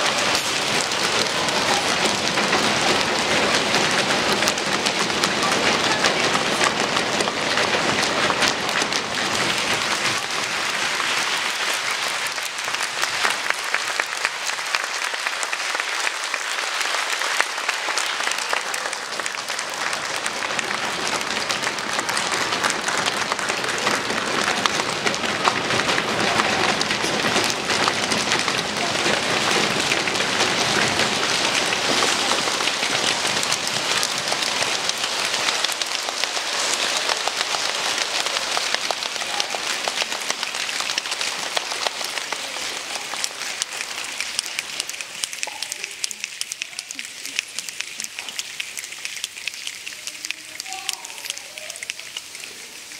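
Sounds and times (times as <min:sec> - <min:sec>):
children clapping and snapping: 0:00.0 - 0:52.9.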